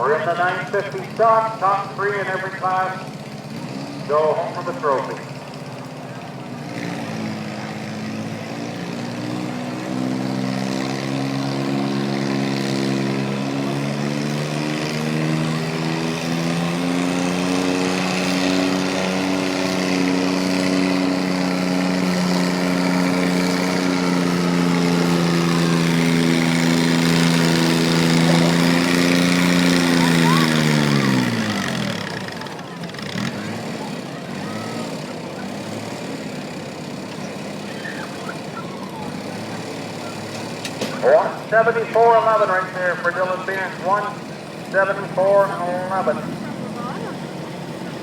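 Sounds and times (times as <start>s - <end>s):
garden tractor engine under load: 0.0s - 48.0s.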